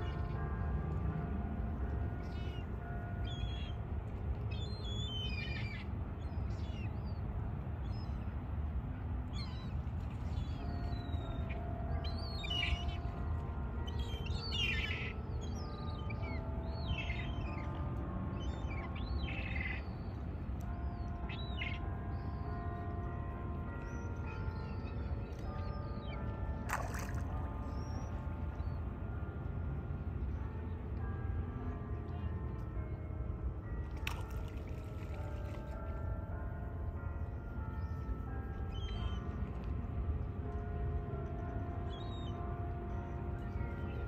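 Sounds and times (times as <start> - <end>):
church bell notes: 0.0 - 8.2, 8.9 - 44.0.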